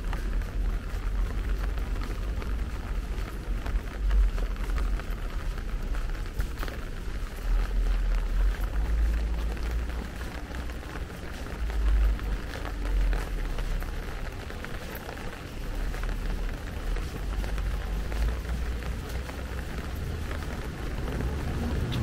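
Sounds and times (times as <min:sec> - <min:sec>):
light rain on pavement: 0:00.0 - 0:22.0
raindrop ticks: 0:00.0 - 0:22.0.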